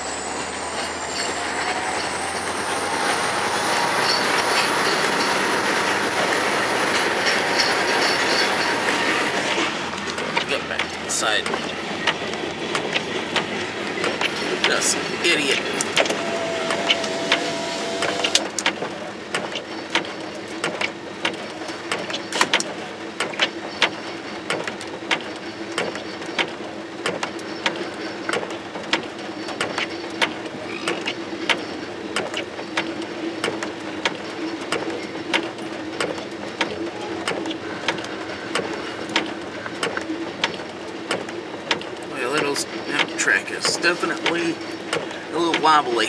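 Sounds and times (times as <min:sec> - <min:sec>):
steady train hum: 0:00.0 - 0:46.0
wheels clicking over rail joints: 0:00.0 - 0:46.0.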